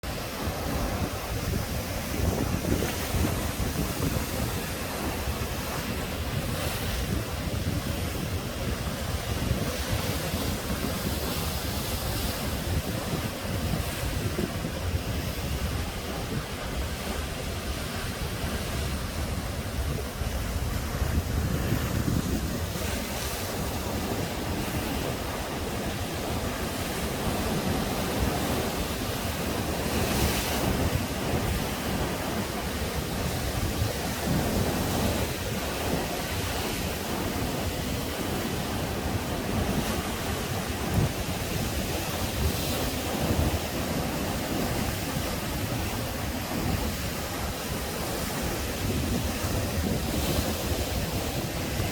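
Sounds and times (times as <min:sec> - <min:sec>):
sea waves breaking on shore: 0:00.0 - 0:51.9
wind buffeting microphone: 0:00.0 - 0:51.9.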